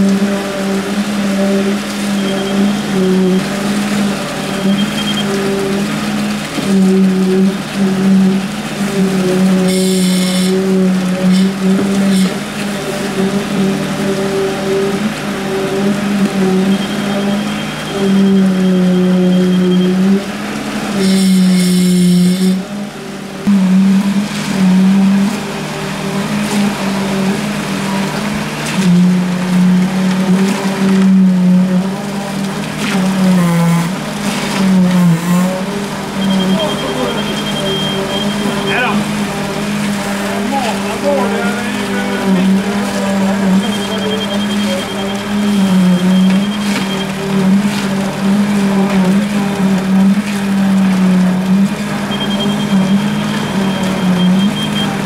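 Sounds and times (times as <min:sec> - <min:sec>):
concrete vibrator humming: 0:00.0 - 0:55.0.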